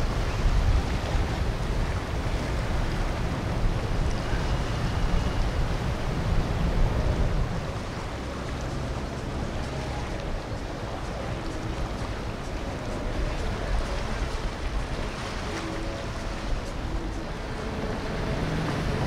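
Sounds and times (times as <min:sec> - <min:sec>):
boat traffic rumble: 0:00.0 - 0:19.0
water washing: 0:00.0 - 0:19.0
wind buffeting microphone: 0:00.0 - 0:19.0.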